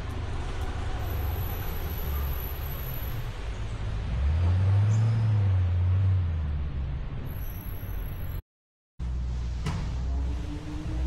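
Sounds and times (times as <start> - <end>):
vehicle engine rumble: 0.0 - 8.4, 9.0 - 11.0.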